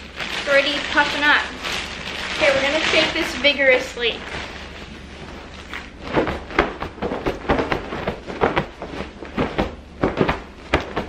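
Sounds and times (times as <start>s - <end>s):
pillow fabric rustling and flapping: 0.0s - 11.0s.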